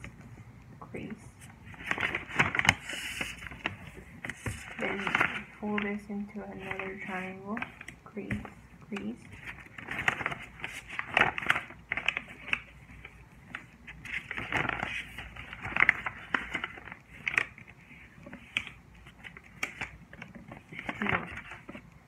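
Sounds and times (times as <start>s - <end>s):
paper folding and crinkling: 1.4s - 22.0s.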